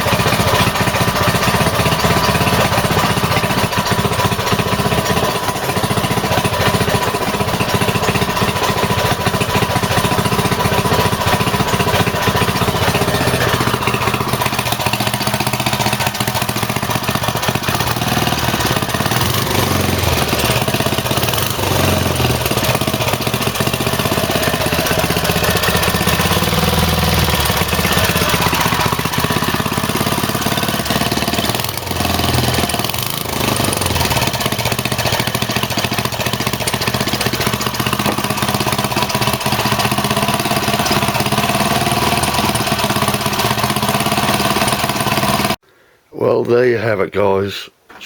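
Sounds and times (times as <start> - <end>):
small petrol engine running: 0.0 - 45.6.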